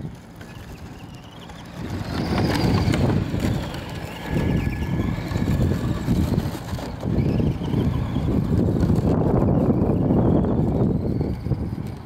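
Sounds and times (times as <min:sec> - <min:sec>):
electric motor whine: 0:00.0 - 0:12.0
wind buffeting microphone: 0:00.0 - 0:12.0.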